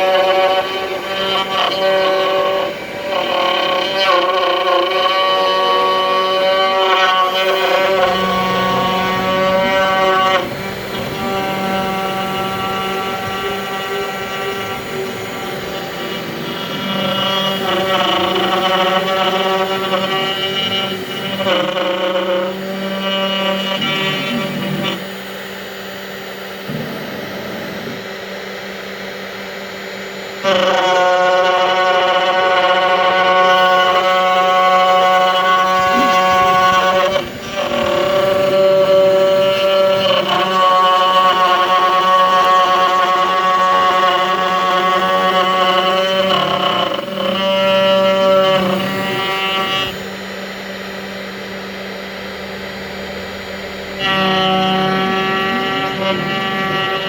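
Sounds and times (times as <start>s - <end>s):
cnc router whirring: 0.0s - 57.0s
high-pitched whine: 0.0s - 57.0s.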